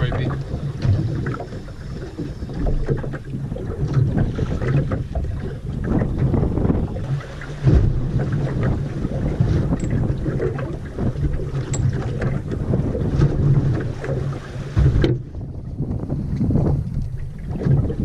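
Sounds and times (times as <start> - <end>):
water lapping at hull: 0.0 - 18.0
wind buffeting microphone: 0.0 - 18.0.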